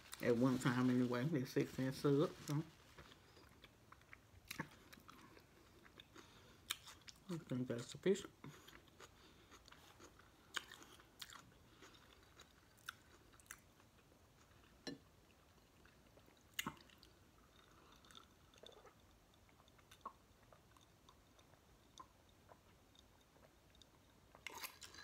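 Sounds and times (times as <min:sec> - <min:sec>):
person chewing: 0:03.0 - 0:07.4, 0:08.4 - 0:25.0.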